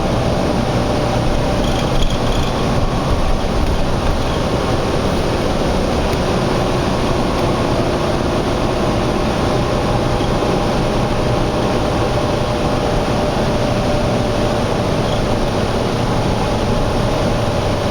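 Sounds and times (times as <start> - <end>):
faint engine hum: 0.0 - 17.9
highway traffic noise: 0.0 - 17.9.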